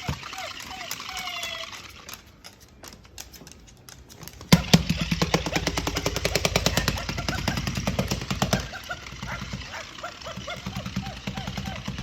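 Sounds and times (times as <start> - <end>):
vibrating toy rattling: 0.0 - 12.0.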